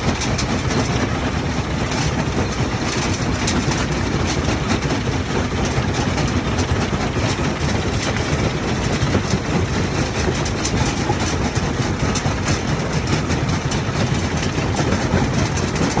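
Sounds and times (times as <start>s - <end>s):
heavy machinery clattering: 0.0s - 16.0s.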